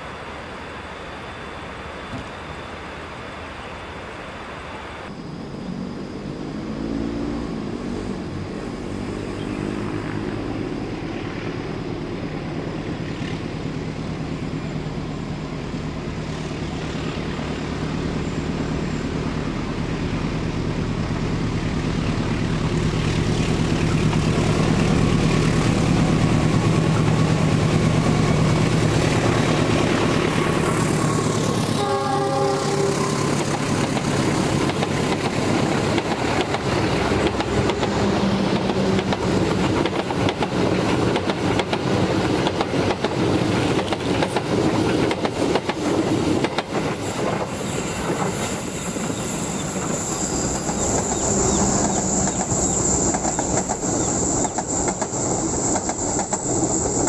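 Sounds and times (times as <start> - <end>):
diesel locomotive engine hum: 0.0 - 57.0
train wheels on rails: 5.0 - 57.0.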